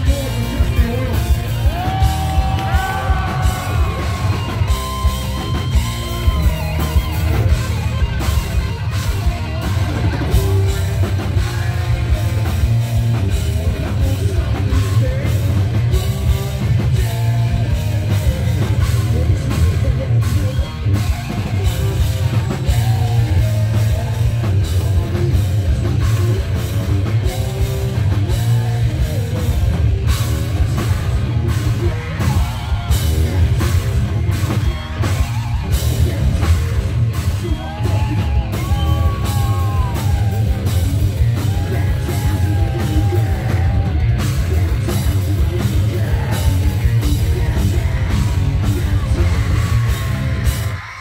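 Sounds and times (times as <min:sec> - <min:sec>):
bass guitar: 0:00.0 - 0:51.0
distorted electric guitar: 0:00.0 - 0:51.0
drum kit: 0:00.0 - 0:51.0.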